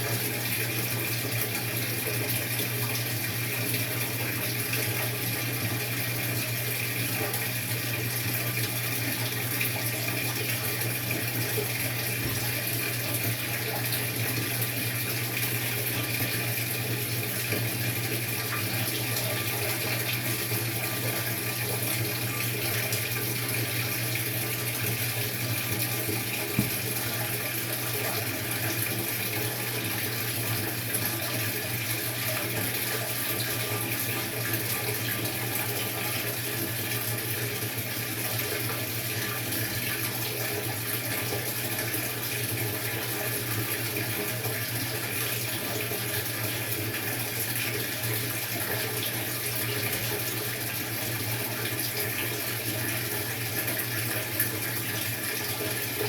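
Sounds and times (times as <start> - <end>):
washing machine water rushing: 0.0 - 56.0.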